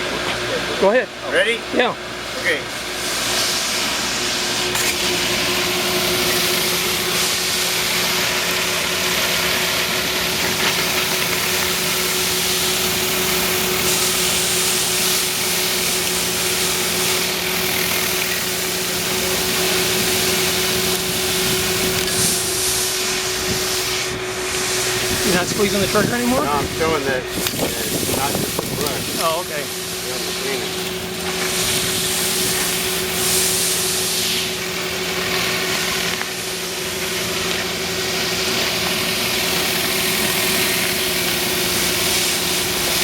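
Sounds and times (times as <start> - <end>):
vacuum airflow: 2.6 - 43.0
pressure washer spray hiss: 2.9 - 9.5, 10.4 - 43.0
motor hum: 3.8 - 43.0.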